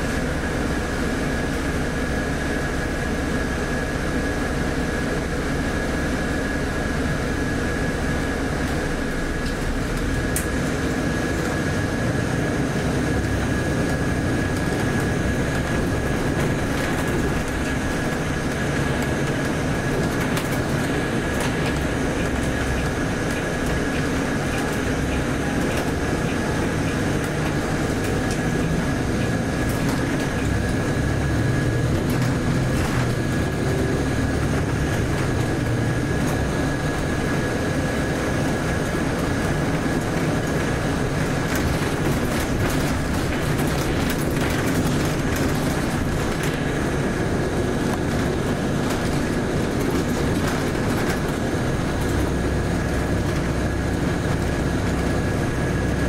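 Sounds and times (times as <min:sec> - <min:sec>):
bus diesel engine and road noise: 0:00.0 - 0:56.0.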